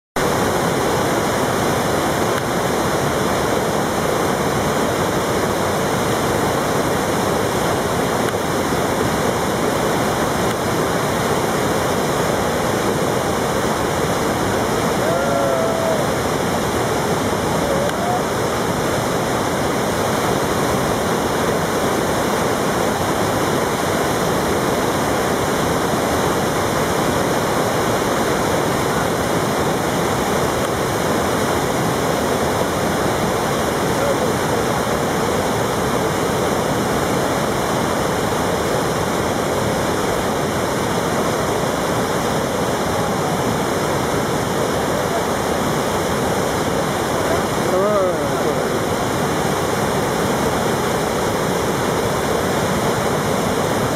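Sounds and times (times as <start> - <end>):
river rushing through rapids: 0.2 - 53.9.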